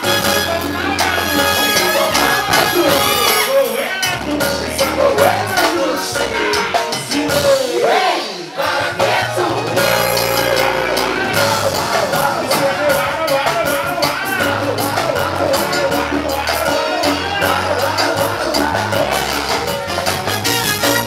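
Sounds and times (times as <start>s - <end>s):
bass-heavy beat: 0.0s - 7.6s, 9.0s - 21.0s
person singing into a microphone: 0.0s - 19.7s.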